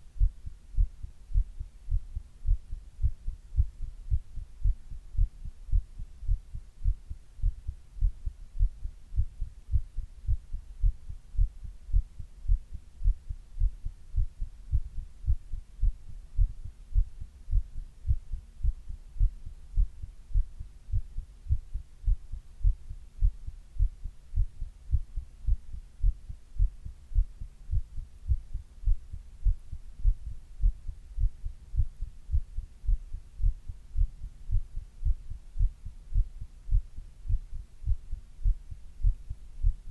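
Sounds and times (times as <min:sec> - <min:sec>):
faint steady hum: 0:00.0 - 0:39.9
heartbeat thumps: 0:00.0 - 0:39.9.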